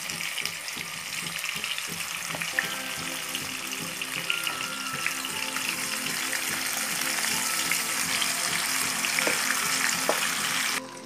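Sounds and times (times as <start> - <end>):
chicken sizzling in hot oil: 0.0 - 10.9.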